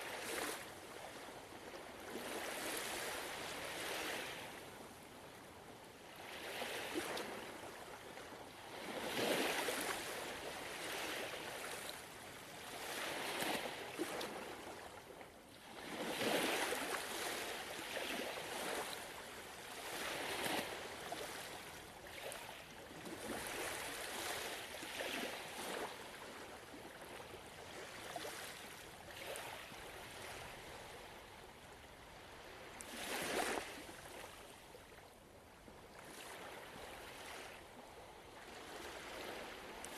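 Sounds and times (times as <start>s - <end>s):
gentle ocean waves: 0.0s - 39.9s.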